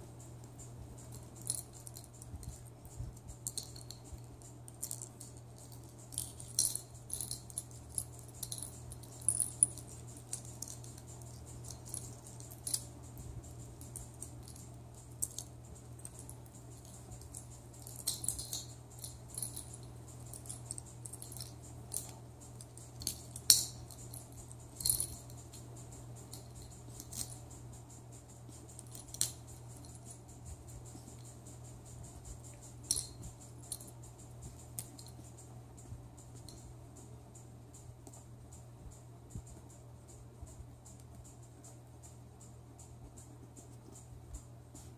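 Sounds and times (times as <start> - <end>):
steady low hum: 0.0 - 44.9
tinsel toys rattling and crinkling: 0.2 - 44.9.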